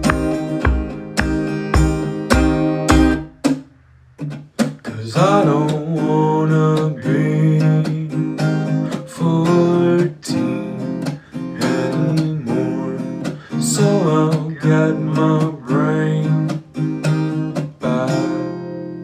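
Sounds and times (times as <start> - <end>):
strummed acoustic guitar: 0.0 - 19.0
wavering guitar melody: 0.0 - 19.0.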